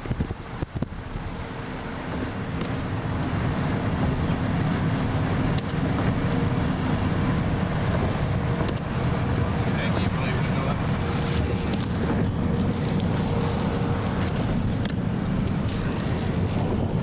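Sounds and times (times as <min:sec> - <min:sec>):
vehicle running rumble: 0:00.0 - 0:17.0.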